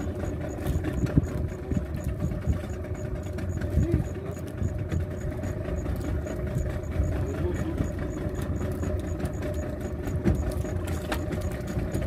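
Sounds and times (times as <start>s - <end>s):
boat engine humming: 0.0s - 12.0s
faint high ticking: 0.0s - 12.0s.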